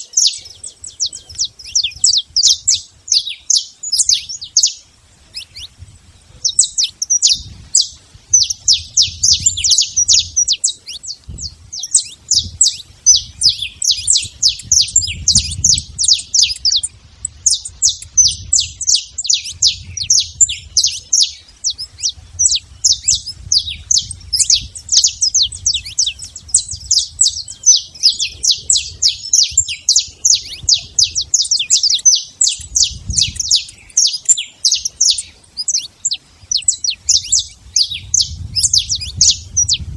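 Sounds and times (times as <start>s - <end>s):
finch singing high chirps: 0.0s - 39.9s.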